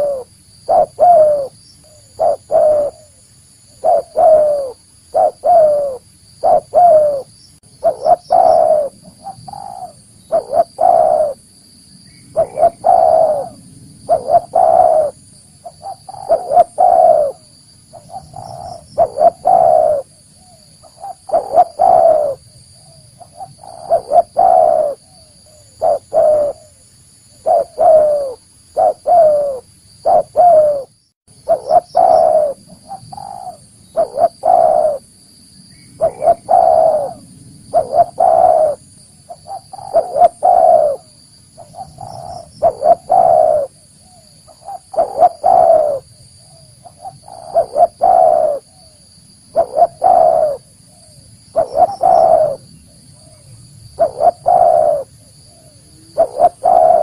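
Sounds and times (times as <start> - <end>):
dove cooing: 0.0 - 11.5, 12.3 - 26.8, 27.4 - 35.1, 36.0 - 57.0.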